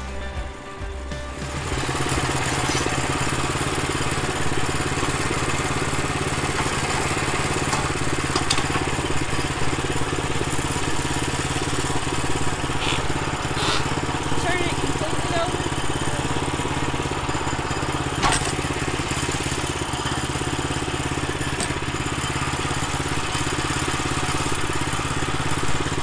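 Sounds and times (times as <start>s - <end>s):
small gas engine idling: 0.0s - 26.0s.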